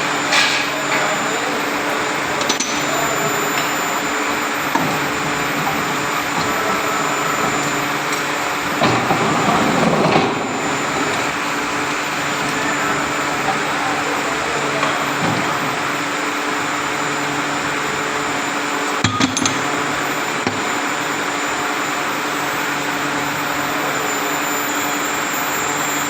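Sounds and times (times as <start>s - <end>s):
press machine motor hum: 0.0s - 24.4s.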